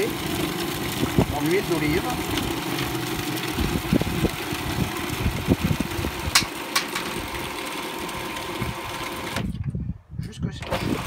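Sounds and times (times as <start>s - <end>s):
food processor motor running: 0.0s - 9.5s, 10.7s - 11.0s.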